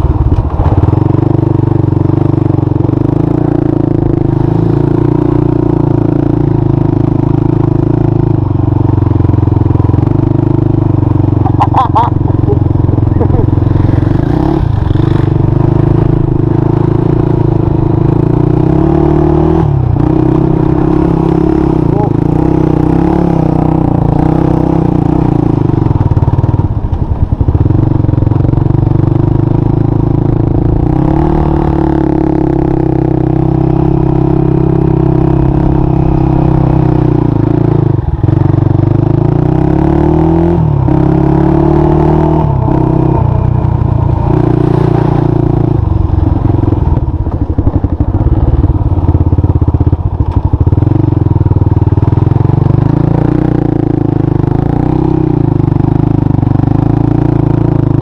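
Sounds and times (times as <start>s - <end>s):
quad engine revving: 0.0s - 26.6s, 27.9s - 49.4s, 50.2s - 58.0s.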